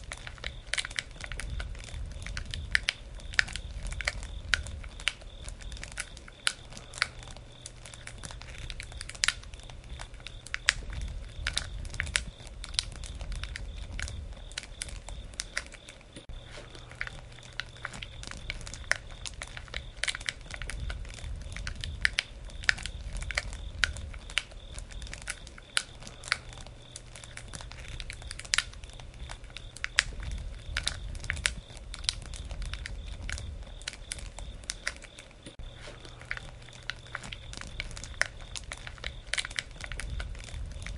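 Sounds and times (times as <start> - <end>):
campfire crackling and popping: 0.0 - 40.9
low rumble of flames: 0.0 - 40.9.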